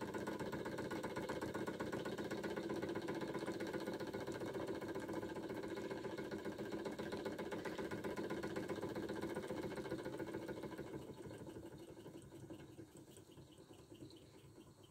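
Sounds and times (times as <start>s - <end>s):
hot air engine clattering: 0.0s - 14.9s.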